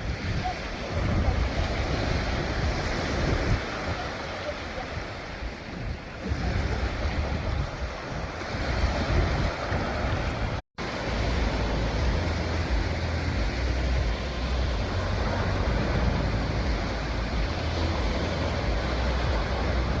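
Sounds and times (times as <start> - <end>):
sea waves washing in: 0.0 - 20.0
wind buffeting microphone: 0.0 - 20.0.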